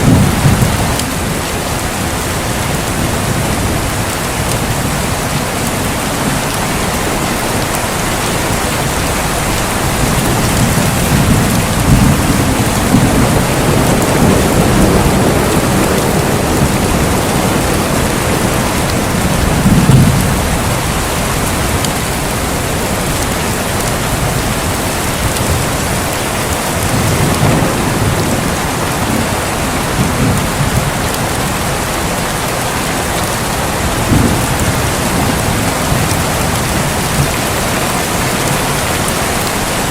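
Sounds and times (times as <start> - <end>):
rolling thunder: 0.0 - 39.8
heavy rain hissing: 0.0 - 39.9.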